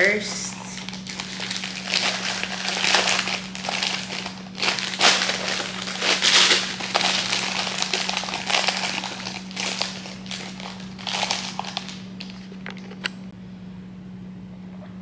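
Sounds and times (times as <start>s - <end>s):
plastic wrappers crinkling: 0.0s - 13.1s
steady low hum: 0.0s - 15.0s.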